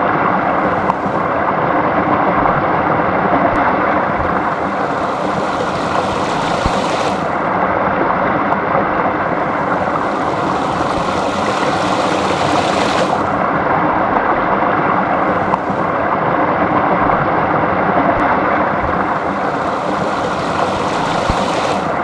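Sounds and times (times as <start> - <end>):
stream gurgling: 0.0 - 22.0.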